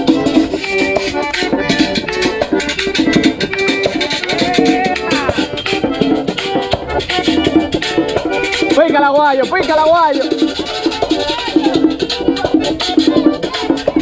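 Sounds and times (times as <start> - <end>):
accordion melody: 0.0 - 14.0
two-headed drum beat: 0.0 - 14.0.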